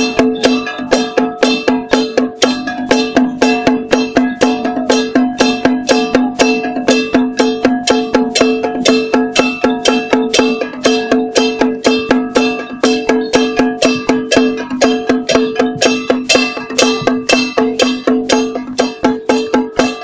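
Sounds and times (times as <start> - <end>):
gongs and cymbals ringing: 0.0 - 20.0.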